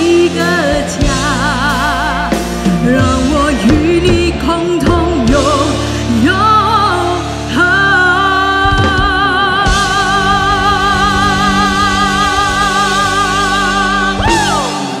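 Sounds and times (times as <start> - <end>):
band accompaniment: 0.0 - 15.0.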